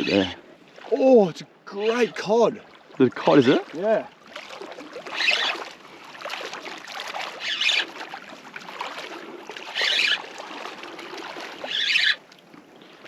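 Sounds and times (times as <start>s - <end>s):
low water wash: 0.0s - 13.0s
water splashing and sloshing: 0.0s - 13.0s.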